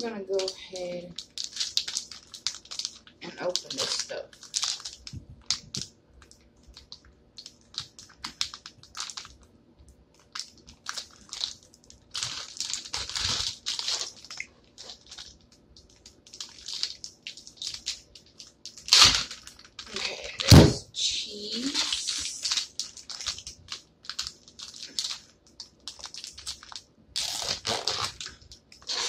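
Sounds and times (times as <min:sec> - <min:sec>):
plastic packaging crinkling: 0:00.0 - 0:20.8, 0:21.6 - 0:29.0.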